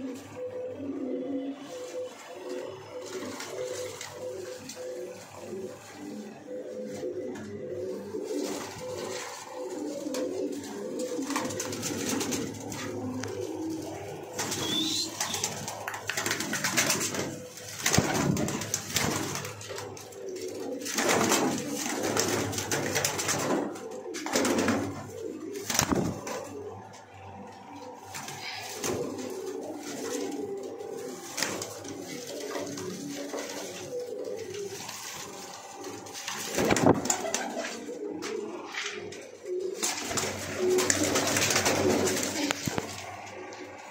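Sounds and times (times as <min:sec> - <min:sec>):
pigeons cooing: 0:00.0 - 0:43.9
wing flapping: 0:01.9 - 0:43.9.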